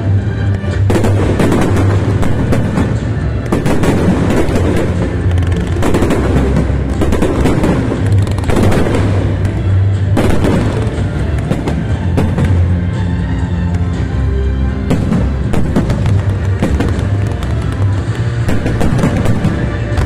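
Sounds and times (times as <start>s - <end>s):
fireworks bursting and crackling: 0.0s - 20.0s
loud music: 0.0s - 20.0s.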